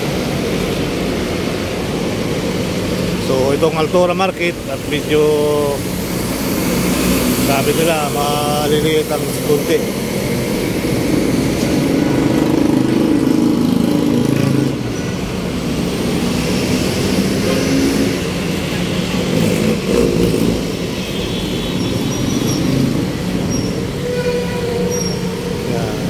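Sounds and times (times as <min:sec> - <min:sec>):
road noise rushing: 0:00.0 - 0:26.0
vehicles passing: 0:00.0 - 0:26.0.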